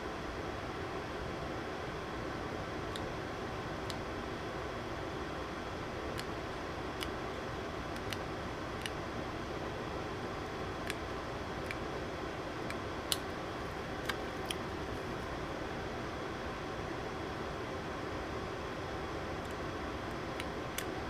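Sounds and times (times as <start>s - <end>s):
fan-like hiss: 0.0s - 21.0s.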